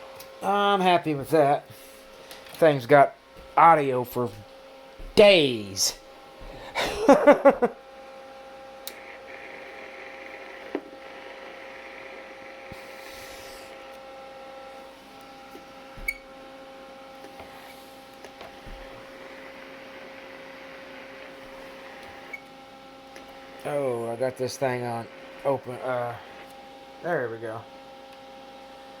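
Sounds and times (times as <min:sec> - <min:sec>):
electrical hum and whine: 0:00.0 - 0:29.0.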